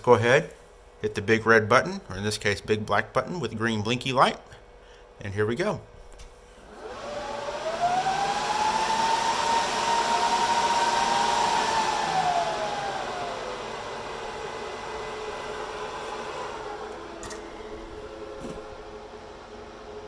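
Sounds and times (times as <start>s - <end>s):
server cooling fans whining: 0.0s - 20.0s.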